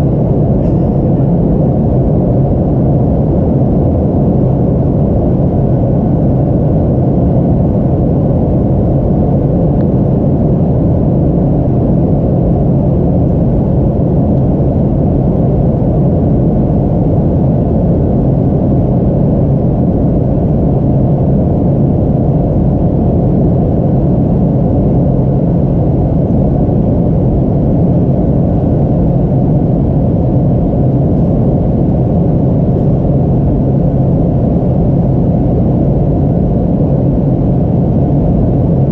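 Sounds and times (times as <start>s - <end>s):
airliner cabin engine drone: 0.0s - 38.9s.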